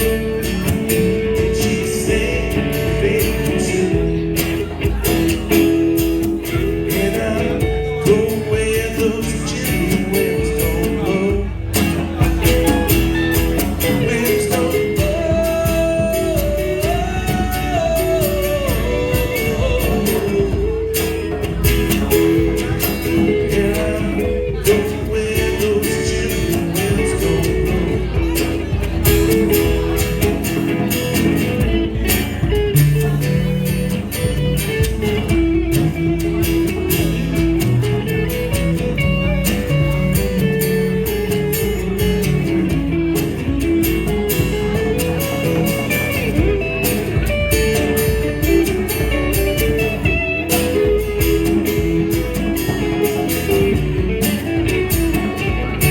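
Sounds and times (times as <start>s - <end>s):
electric guitars: 0.0s - 55.9s
live rock band playing: 0.0s - 55.9s.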